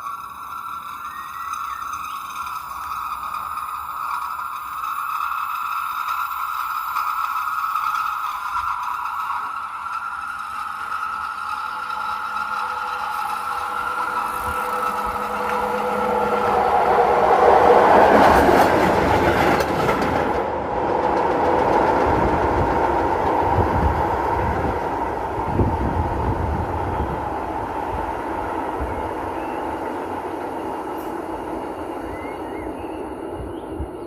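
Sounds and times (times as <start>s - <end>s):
train wheels rumbling and clattering: 0.0s - 34.0s
train wheels squealing on rails: 0.0s - 34.0s.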